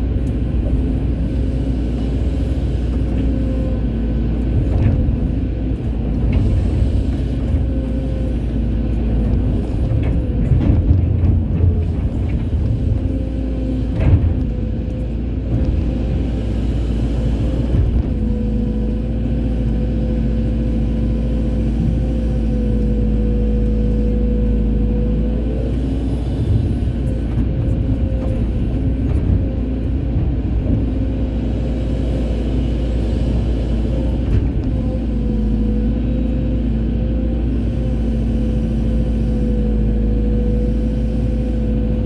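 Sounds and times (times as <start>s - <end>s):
excavator diesel engine whining: 0.0s - 42.0s.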